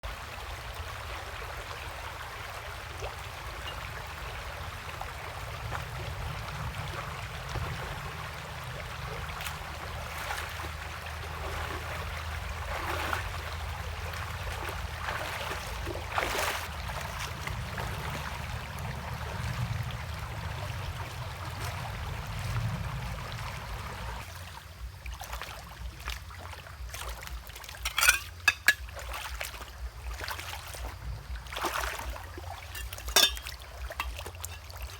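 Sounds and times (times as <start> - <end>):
water trickling: 0.1 - 34.9.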